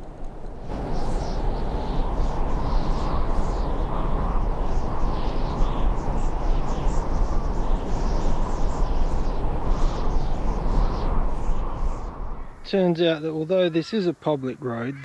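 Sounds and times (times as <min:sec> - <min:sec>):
bicycle road noise: 0:00.0 - 0:12.7
wind rumble on microphone: 0:00.0 - 0:12.7.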